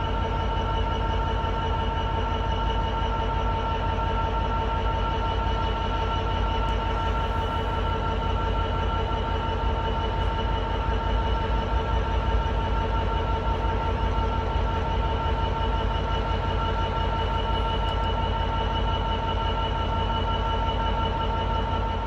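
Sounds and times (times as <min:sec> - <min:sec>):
diesel locomotive engine idling: 0:00.0 - 0:22.0.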